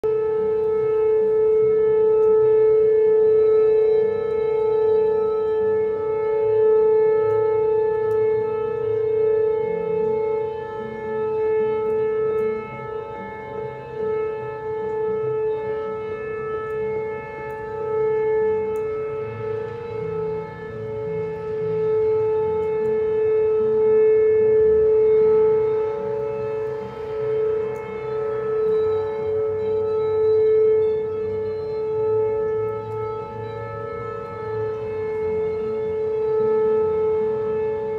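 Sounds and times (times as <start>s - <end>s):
warning siren: 0.0s - 37.9s.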